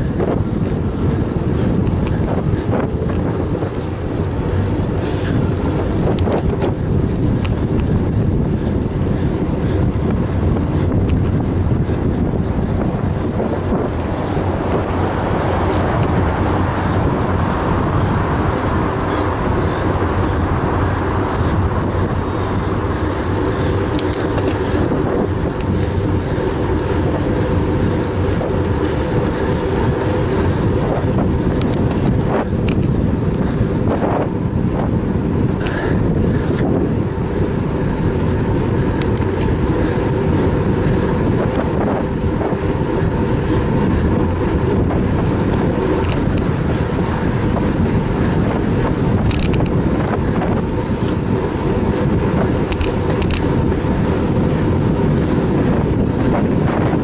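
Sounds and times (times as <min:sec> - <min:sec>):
bike tyres humming on pavement: 0:00.0 - 0:57.0
wind on microphone: 0:00.0 - 0:57.0.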